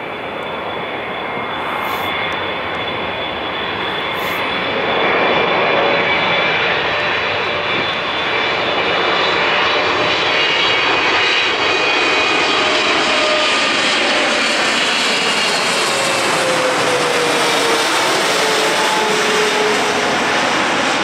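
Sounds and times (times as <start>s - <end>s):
jet airliner roaring overhead: 0.0s - 21.0s
jet engine whining: 0.0s - 21.0s.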